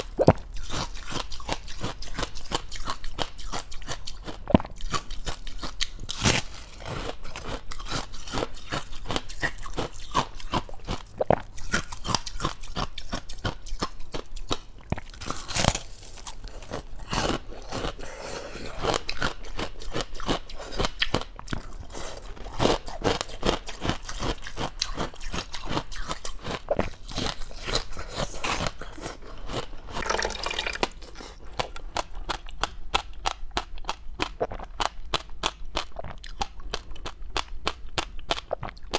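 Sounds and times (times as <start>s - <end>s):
ice crunching and chewing: 0.0s - 38.9s.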